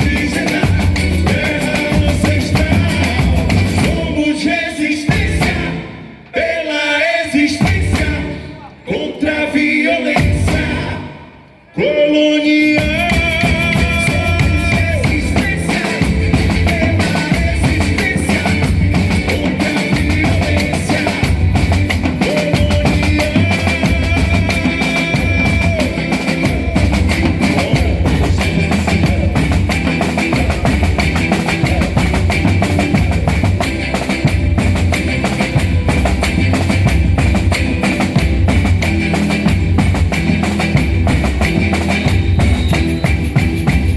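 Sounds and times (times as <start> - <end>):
music with heavy drums: 0.0 - 4.4, 5.0 - 6.0, 7.5 - 8.4, 10.2 - 10.9, 12.7 - 43.9.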